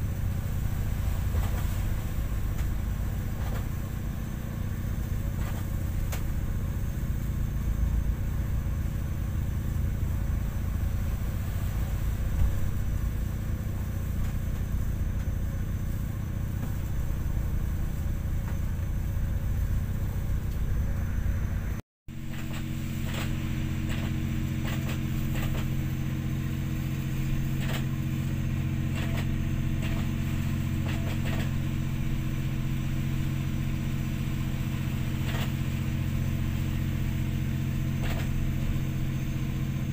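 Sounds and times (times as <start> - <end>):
ship engines droning: 0.0 - 39.9.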